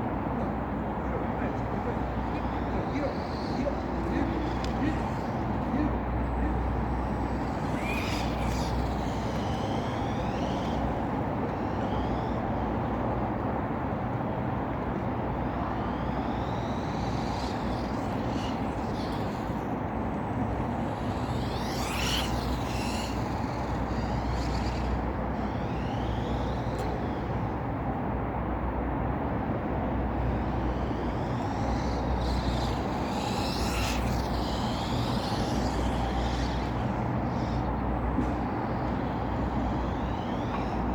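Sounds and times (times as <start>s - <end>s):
electric motors whining: 0.0s - 40.9s
steady rushing noise: 0.0s - 40.9s.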